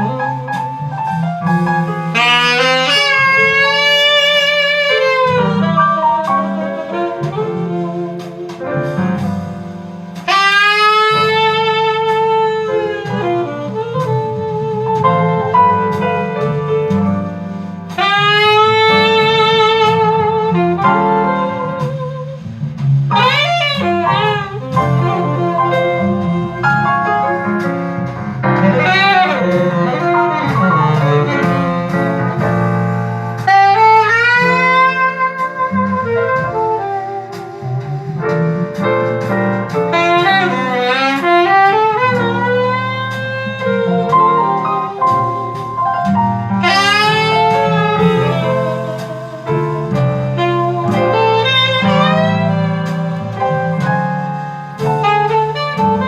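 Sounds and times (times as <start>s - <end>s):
jazz saxophone through loudspeaker: 0.0s - 56.0s.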